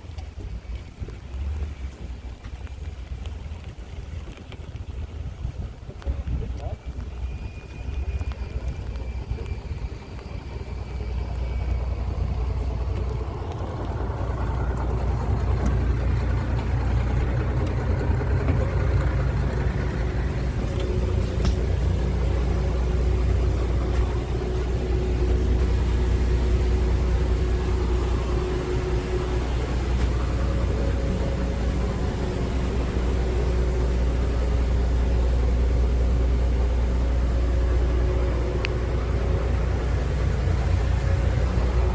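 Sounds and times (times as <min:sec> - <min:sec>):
vehicle low rumble: 0:00.0 - 0:41.9.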